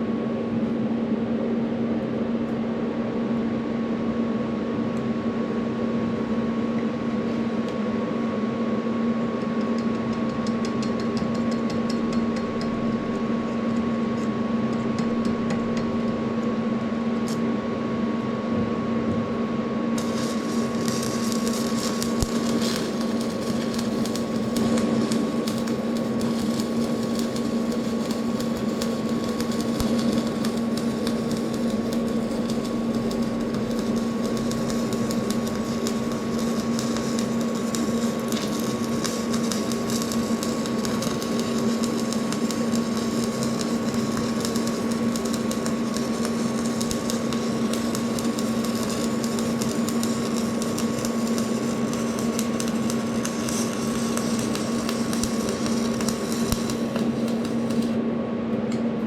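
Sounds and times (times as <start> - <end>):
machine humming: 8.0 - 58.5.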